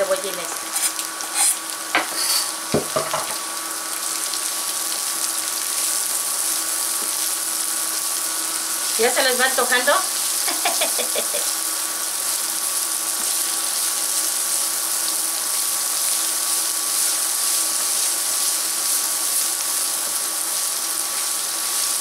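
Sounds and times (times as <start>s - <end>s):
bacon and onion sizzling in pan: 0.0s - 22.0s.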